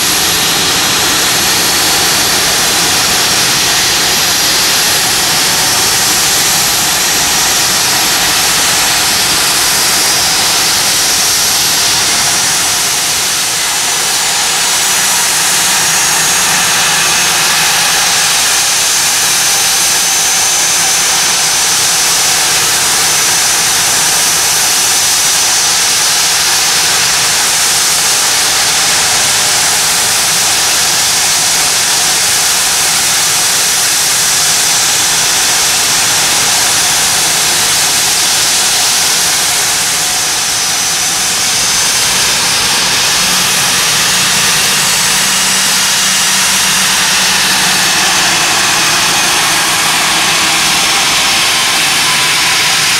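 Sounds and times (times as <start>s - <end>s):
jet engines idling: 0.0s - 52.9s.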